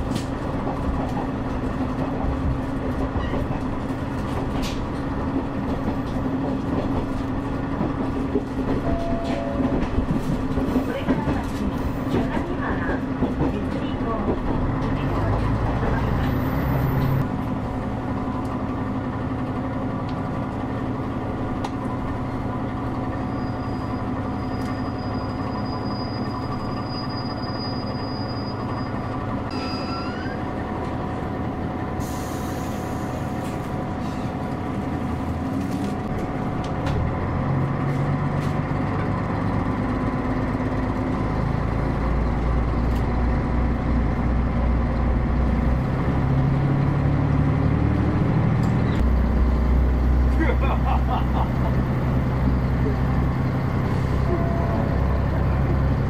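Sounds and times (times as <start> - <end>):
rail noise: 0.0 - 56.0
railcar engine hum: 0.0 - 56.0.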